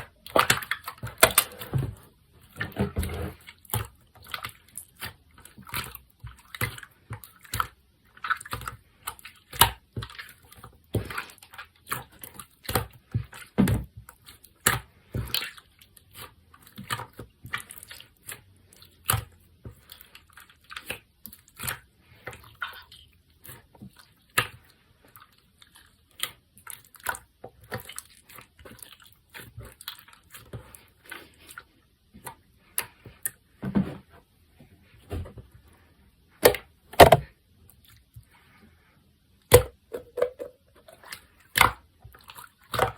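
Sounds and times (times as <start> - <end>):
slime squelching: 0.0 - 42.9.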